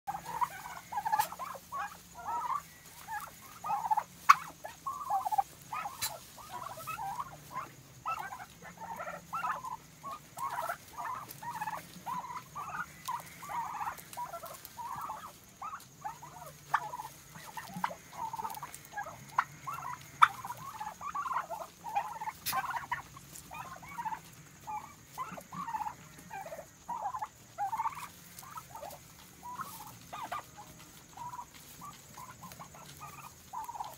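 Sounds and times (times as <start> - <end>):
turkey hens chirping: 0.1 - 33.9.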